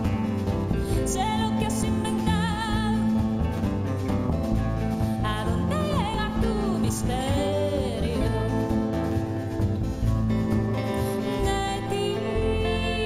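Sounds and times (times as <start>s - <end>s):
double bass plucked: 0.0s - 13.0s.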